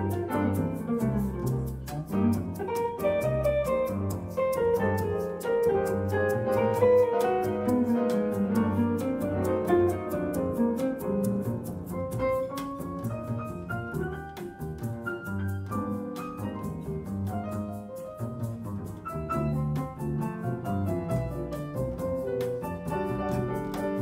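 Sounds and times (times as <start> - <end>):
bossa nova band instrumental: 0.0 - 24.0.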